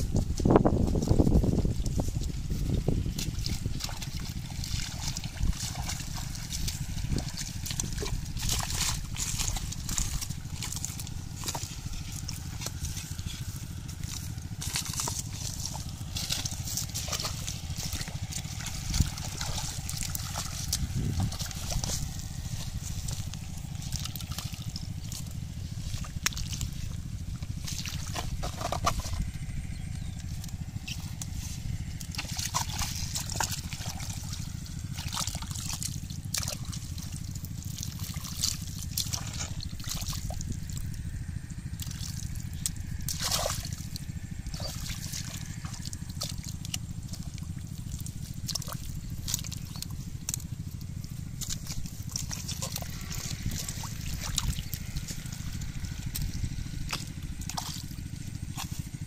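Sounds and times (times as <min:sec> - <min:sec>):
splashing in muddy water: 0:00.0 - 0:59.0
steady low rumble: 0:00.0 - 0:59.0.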